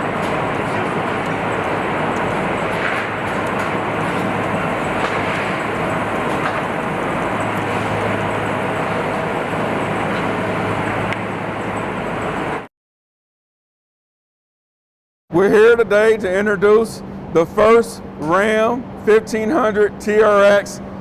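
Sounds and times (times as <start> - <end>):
mechanical hum: 0.0 - 12.7, 15.3 - 21.0.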